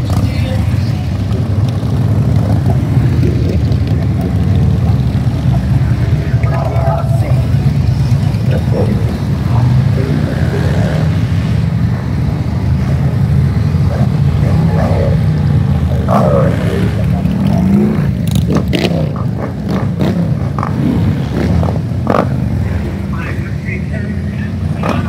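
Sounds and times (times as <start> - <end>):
motorcycle engine revving: 0.0 - 23.1, 24.6 - 25.0
motorcycle engines rumbling: 0.0 - 25.0.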